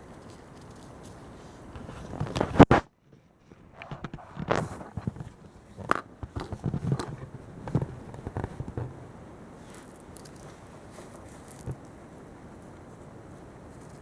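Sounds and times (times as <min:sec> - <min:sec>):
handling taps and rustles: 0:00.1 - 0:12.3.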